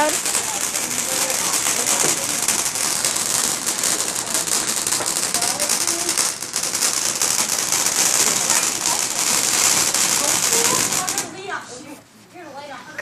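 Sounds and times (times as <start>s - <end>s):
firework fountain hissing and crackling: 0.0s - 11.9s.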